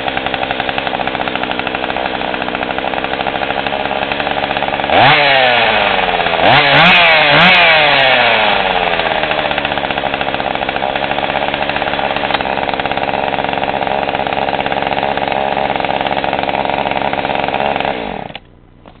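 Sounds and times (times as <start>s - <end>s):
chainsaw idling: 0.0s - 19.0s
engine winding down: 0.0s - 19.0s.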